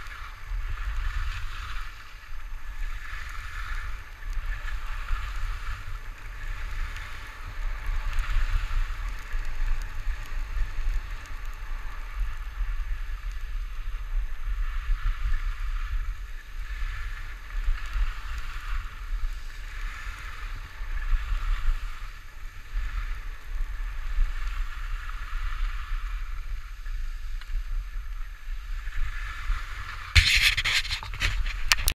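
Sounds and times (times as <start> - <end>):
skis scraping over snow: 0.0 - 32.0.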